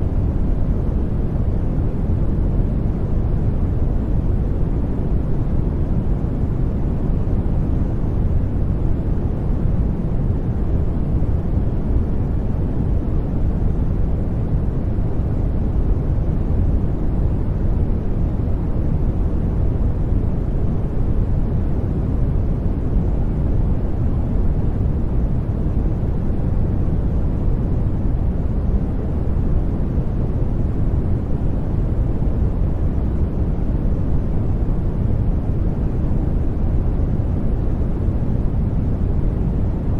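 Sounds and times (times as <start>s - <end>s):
white noise: 0.0s - 39.9s.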